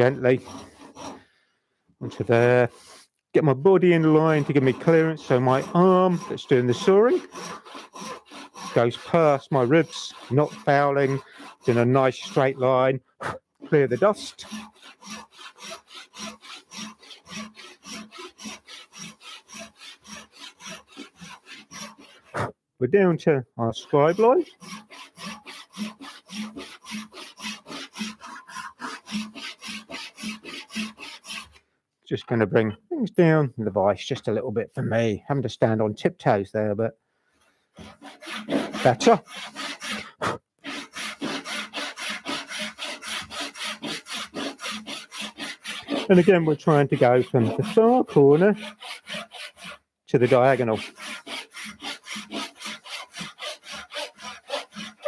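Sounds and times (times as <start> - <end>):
hand saw cutting wood: 0.0 - 1.4, 2.0 - 22.5, 23.1 - 31.6, 37.4 - 55.0.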